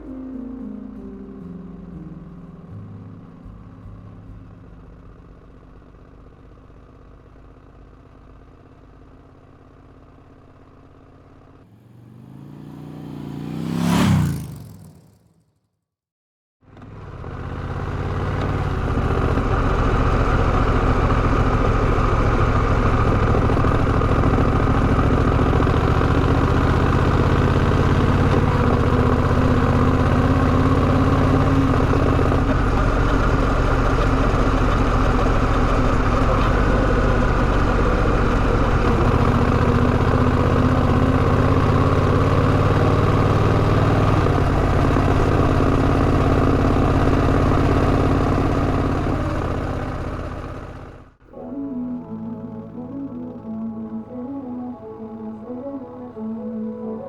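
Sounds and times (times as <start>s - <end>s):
motorcycle engine running: 2.8s - 15.5s, 16.6s - 57.0s.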